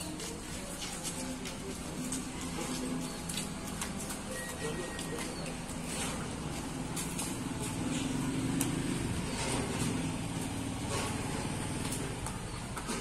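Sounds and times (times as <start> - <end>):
outdoor traffic: 0.0 - 13.0
vehicle engine humming: 0.0 - 13.0.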